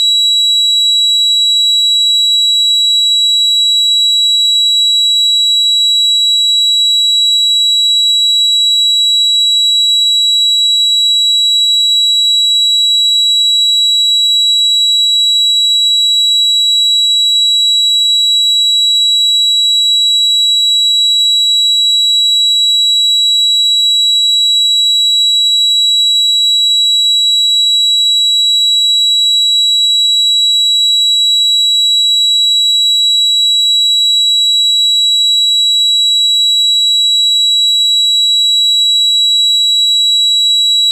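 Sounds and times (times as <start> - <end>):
high-pitched ringing tone: 0.0 - 40.9.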